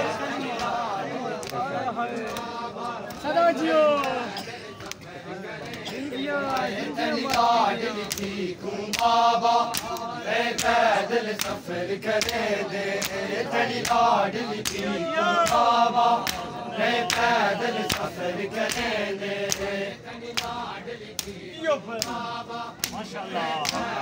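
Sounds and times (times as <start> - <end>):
men chanting together: 0.0 - 24.0
hands slapping bare chests: 0.6 - 3.3, 4.0 - 19.7, 20.3 - 21.4, 22.0 - 24.0.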